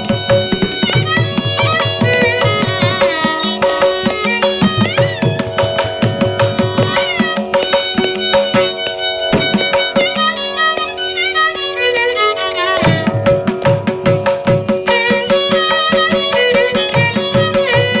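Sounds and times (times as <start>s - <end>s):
hand drum strokes: 0.0s - 18.0s
violin playing ornamented melody: 0.0s - 18.0s.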